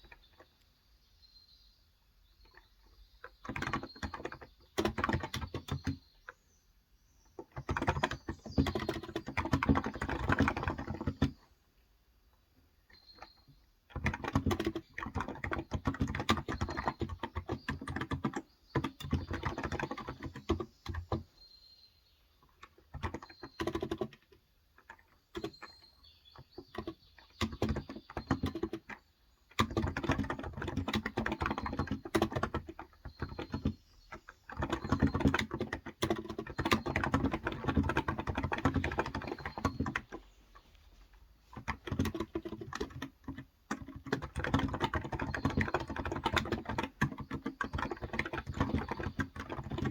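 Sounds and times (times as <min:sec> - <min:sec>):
typing on a keyboard: 0:02.4 - 0:06.3, 0:07.4 - 0:11.5, 0:12.9 - 0:21.3, 0:22.4 - 0:40.8, 0:41.5 - 0:49.9.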